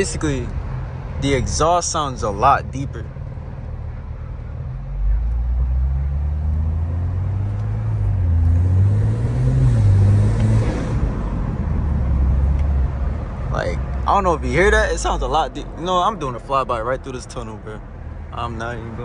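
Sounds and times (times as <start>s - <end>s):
car engine accelerating: 0.0s - 15.5s.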